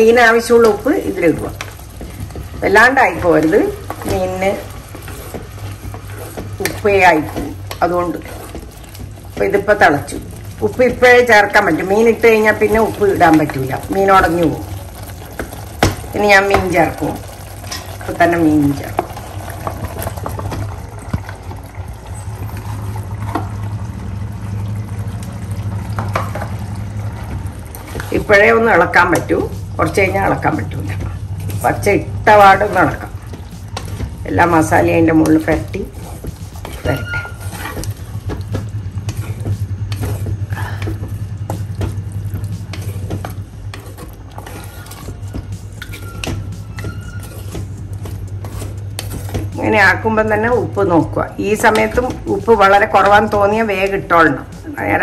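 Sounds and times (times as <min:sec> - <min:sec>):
sauce bubbling in a pot: 0:00.0 - 0:50.5
steady low hum: 0:00.0 - 0:55.0.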